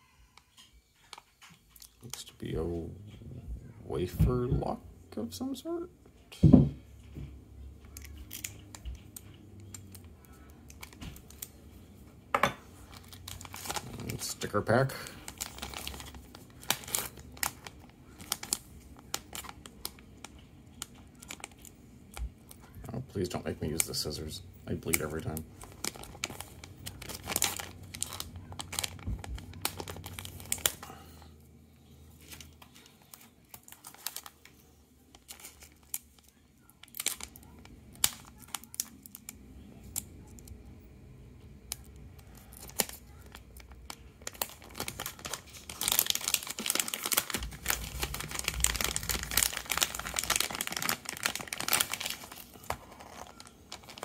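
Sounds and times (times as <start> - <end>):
plastic bag crinkling: 7.9 - 40.6, 41.6 - 54.0.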